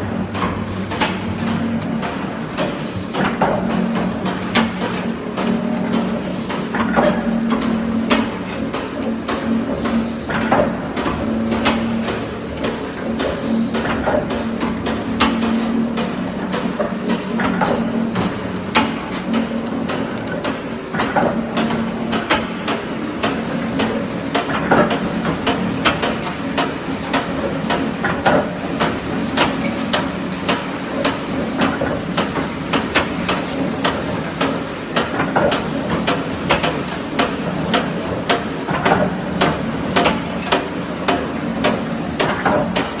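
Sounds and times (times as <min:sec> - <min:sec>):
machine humming: 0:00.0 - 0:43.0
machine clacking: 0:00.3 - 0:43.0.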